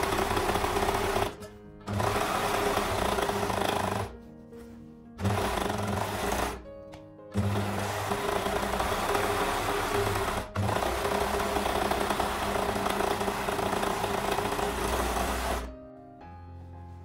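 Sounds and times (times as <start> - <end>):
overlock machine running: 0.0 - 4.1, 5.2 - 6.6, 7.3 - 15.7
soft piano music: 0.0 - 11.4, 12.1 - 17.0.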